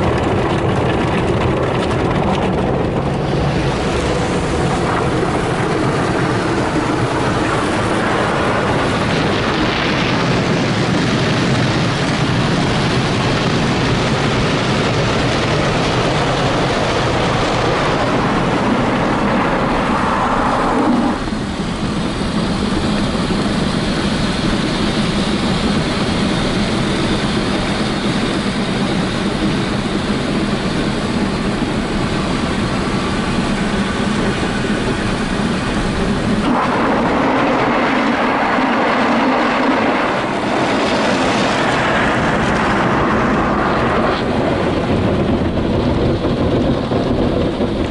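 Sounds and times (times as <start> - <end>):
car wash machinery running: 0.0 - 47.9
water spraying on car: 0.0 - 47.9.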